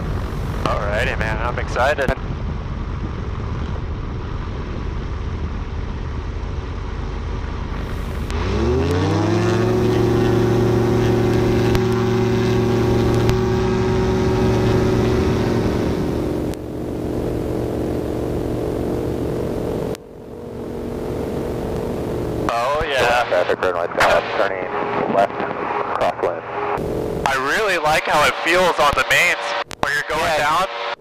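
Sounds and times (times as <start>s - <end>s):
propeller engine drone: 0.0s - 31.0s.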